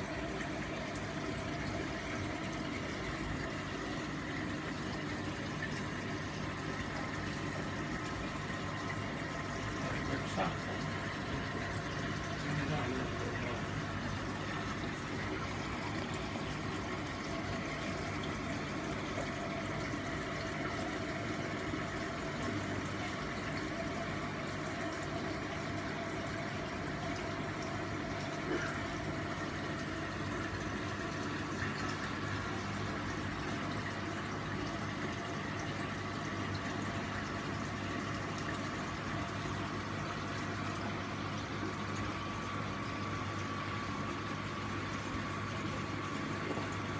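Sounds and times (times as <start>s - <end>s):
pump hum: 0.0s - 46.9s
water circulating: 0.0s - 46.9s.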